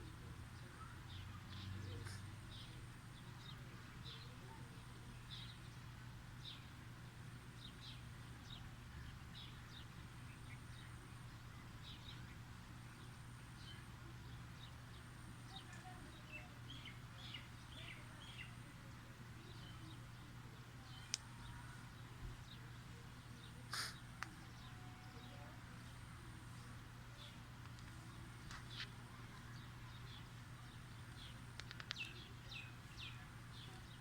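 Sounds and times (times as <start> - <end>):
faint bird chirping: 0.0 - 6.9, 7.5 - 34.0.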